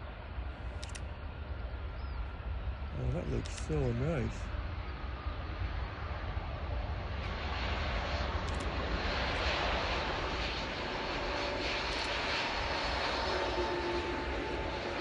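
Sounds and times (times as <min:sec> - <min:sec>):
airliner engines running: 0:00.0 - 0:15.0.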